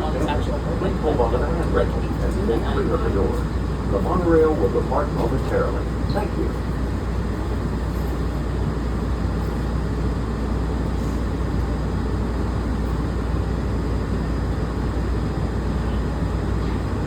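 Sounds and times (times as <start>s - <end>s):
monorail car rumble and hum: 0.0s - 17.0s.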